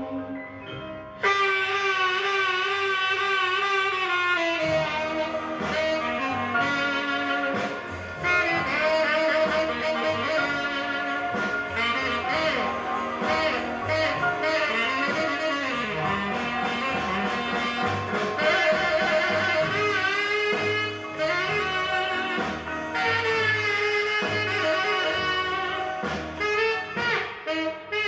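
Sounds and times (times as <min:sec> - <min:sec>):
instrumental music over speakers: 0:00.0 - 0:28.0.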